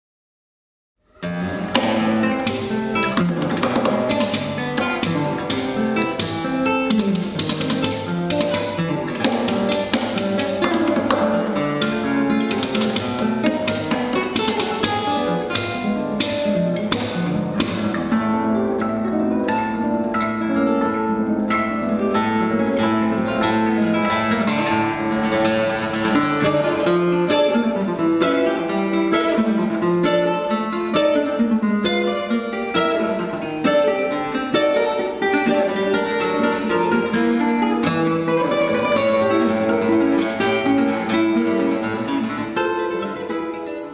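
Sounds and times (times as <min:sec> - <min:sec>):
classical guitar duet: 0:01.0 - 0:43.9.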